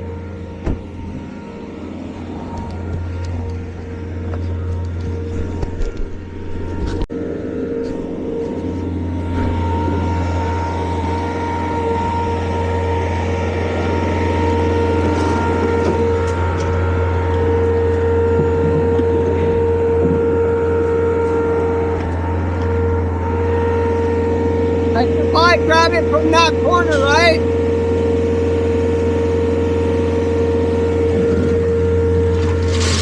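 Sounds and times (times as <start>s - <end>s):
loader engine droning: 0.0s - 33.0s
steady whine: 0.0s - 33.0s.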